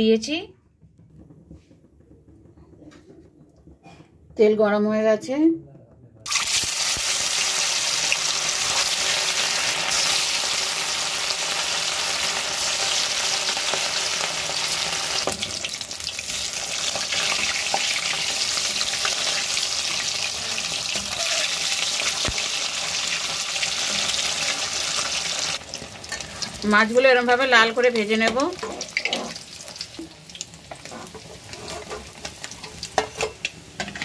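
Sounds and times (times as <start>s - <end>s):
fish sizzling in hot oil: 6.3s - 34.0s.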